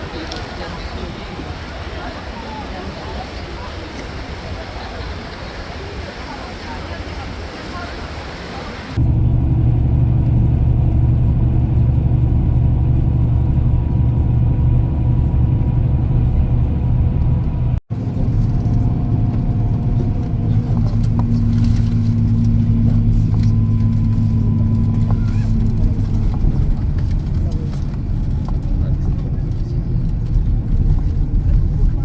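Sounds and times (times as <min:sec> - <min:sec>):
motor vehicle rumbling: 0:00.0 - 0:32.0.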